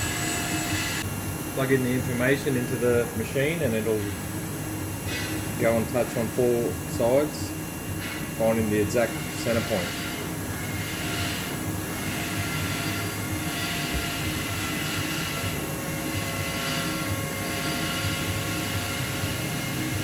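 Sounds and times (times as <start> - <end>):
faint steady whines: 0.0 - 20.0
machining centre low hum: 0.0 - 20.0.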